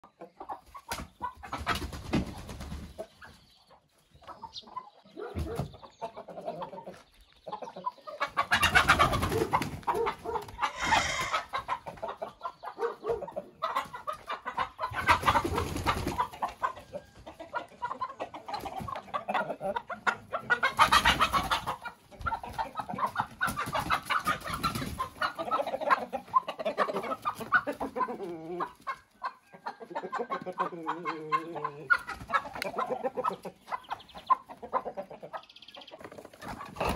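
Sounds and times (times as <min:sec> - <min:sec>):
chickens clucking and calling: 0:00.0 - 0:36.9.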